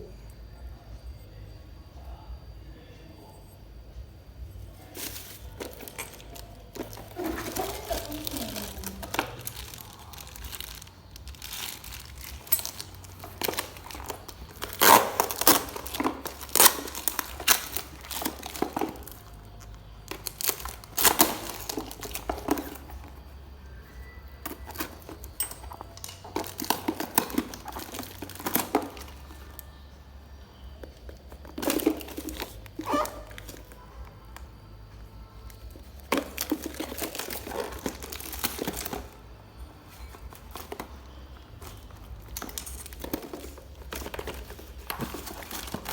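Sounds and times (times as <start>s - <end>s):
packaging crinkling and tearing: 4.8s - 23.4s, 24.0s - 29.9s, 30.5s - 34.6s, 35.4s - 45.9s.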